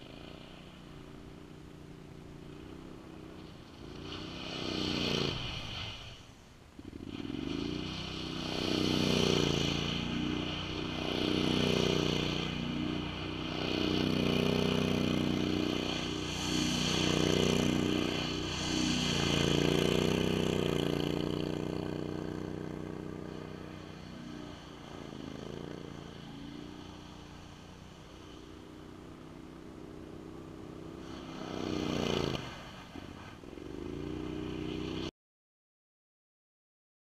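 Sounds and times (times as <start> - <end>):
atv engine running: 0.0 - 5.9, 6.7 - 35.1.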